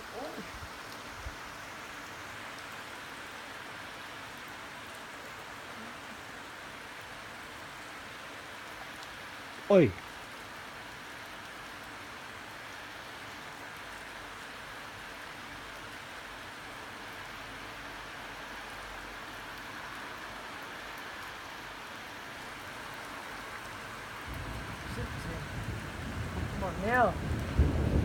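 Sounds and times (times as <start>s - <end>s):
heavy rain: 0.0s - 28.0s.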